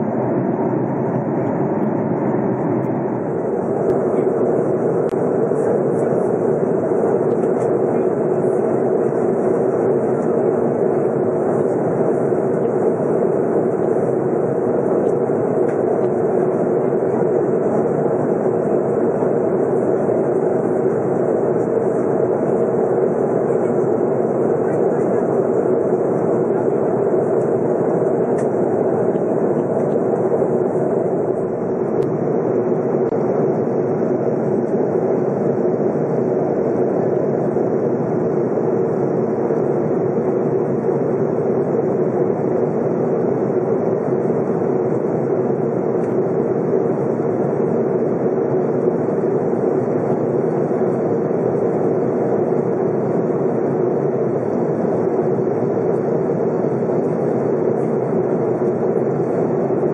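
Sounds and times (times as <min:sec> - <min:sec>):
jet airliner cabin noise: 0:00.0 - 0:59.9.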